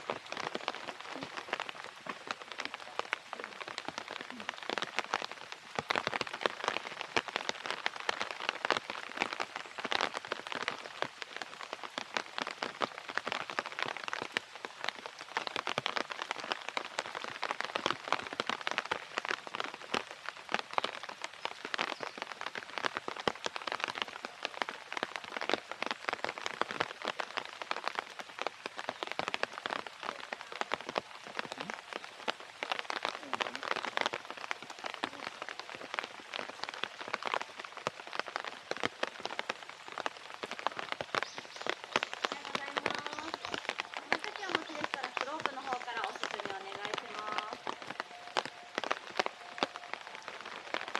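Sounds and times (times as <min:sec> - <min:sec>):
steady rain patter: 0:00.0 - 0:50.9.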